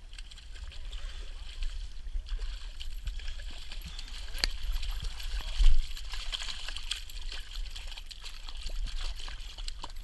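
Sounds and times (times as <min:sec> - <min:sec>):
shallow water splashing: 0:00.0 - 0:10.0.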